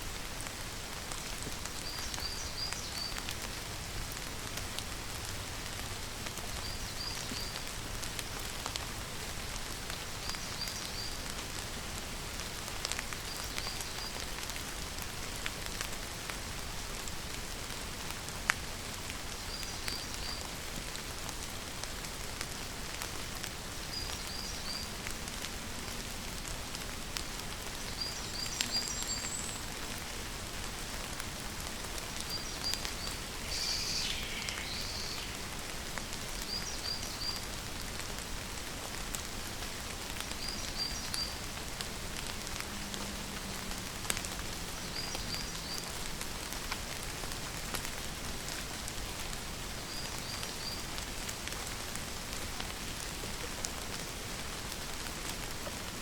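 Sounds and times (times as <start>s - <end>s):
raindrops ticking on a surface: 0.0s - 56.0s
steady rainfall: 0.0s - 56.0s.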